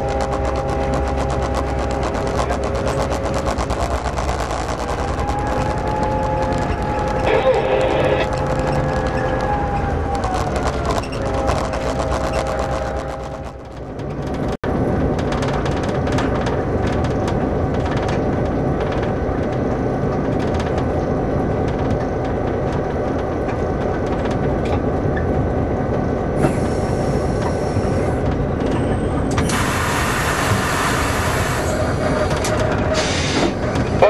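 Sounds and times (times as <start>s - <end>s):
diesel locomotive engine droning: 0.0s - 34.0s.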